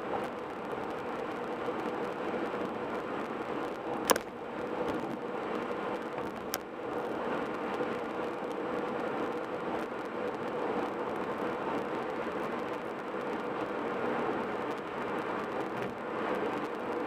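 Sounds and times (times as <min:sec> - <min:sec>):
car road and tyre noise: 0:00.0 - 0:17.0.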